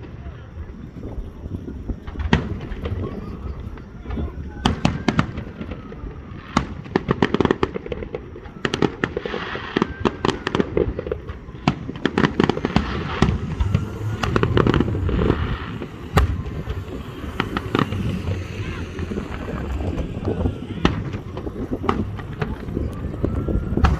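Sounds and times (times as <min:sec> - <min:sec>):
fireworks bangs and crackles: 0:00.0 - 0:23.9
fireworks rumble: 0:00.0 - 0:23.9.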